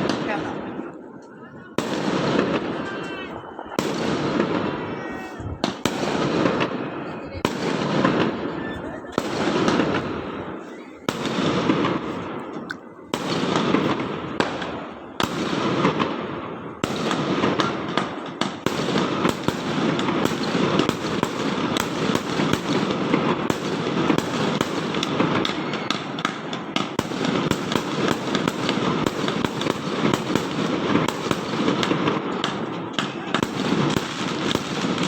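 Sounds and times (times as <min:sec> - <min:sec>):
firecrackers crackling: 0:00.0 - 0:35.0
firework bangs: 0:00.0 - 0:35.0.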